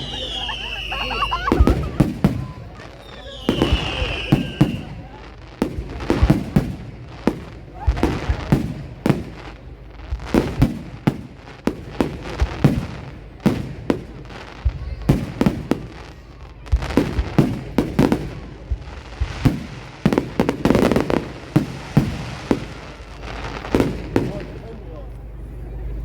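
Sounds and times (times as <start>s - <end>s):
fireworks bangs: 0.0s - 25.4s
fireworks crackling: 0.0s - 26.0s.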